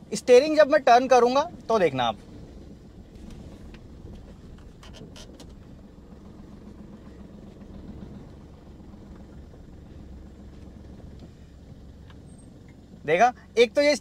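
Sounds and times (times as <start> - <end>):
car engine hum and rumble: 0.0 - 14.0.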